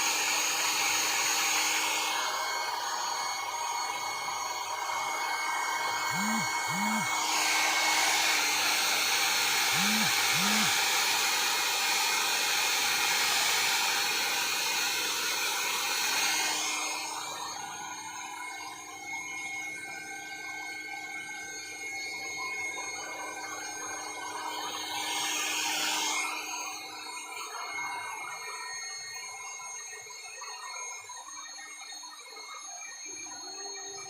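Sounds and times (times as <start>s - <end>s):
hair dryer blowing: 0.0s - 29.3s.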